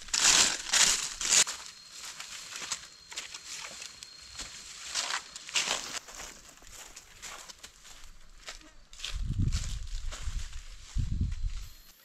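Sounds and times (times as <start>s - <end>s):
dry leaves crackling and rustling: 0.0s - 11.6s.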